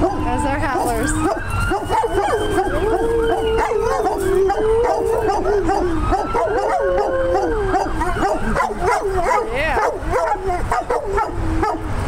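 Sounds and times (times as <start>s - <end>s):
dogs howling: 0.0s - 11.9s
fire truck sirens: 0.0s - 12.0s.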